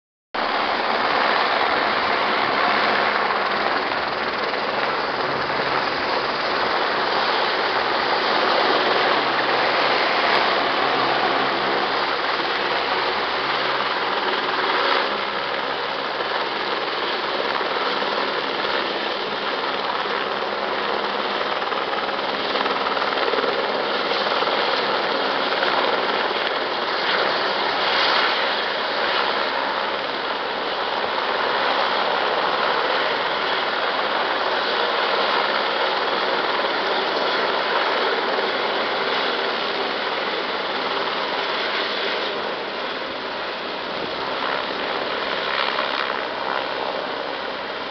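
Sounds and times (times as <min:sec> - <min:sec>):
helicopter rotor roar: 0:00.4 - 0:47.9.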